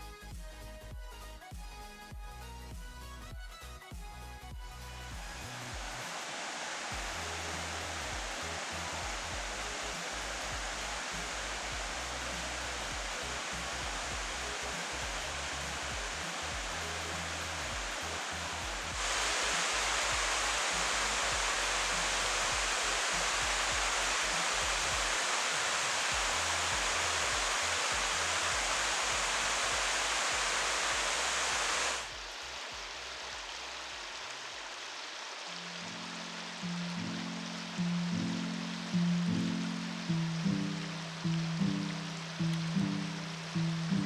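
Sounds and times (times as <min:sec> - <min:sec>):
river and waterfalls rushing: 0:05.0 - 0:44.0.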